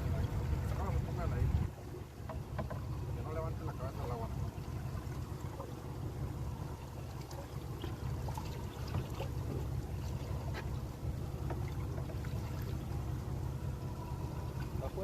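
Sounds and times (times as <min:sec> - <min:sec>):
low rumble: 0:00.0 - 0:15.0
water lapping against boat: 0:00.0 - 0:15.0.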